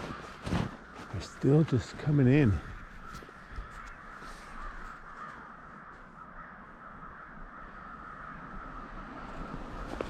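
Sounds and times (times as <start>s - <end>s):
crows cawing: 0.0s - 10.0s.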